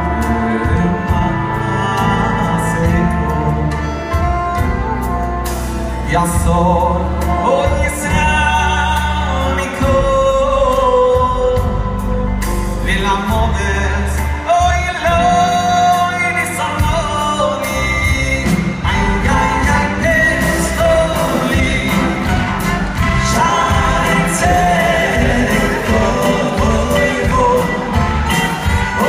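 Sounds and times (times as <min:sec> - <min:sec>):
man singing: 0:00.0 - 0:04.7, 0:05.9 - 0:29.0
bass line: 0:00.0 - 0:29.0.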